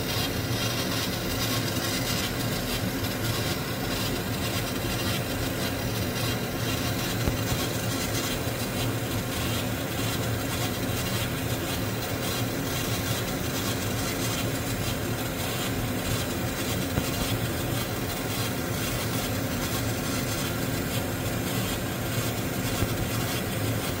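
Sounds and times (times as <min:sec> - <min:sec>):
laser engraver rasping buzz: 0:00.0 - 0:24.0.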